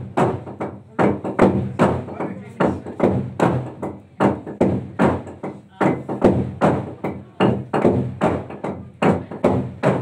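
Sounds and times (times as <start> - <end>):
wooden log drum beaten: 0.0 - 10.0.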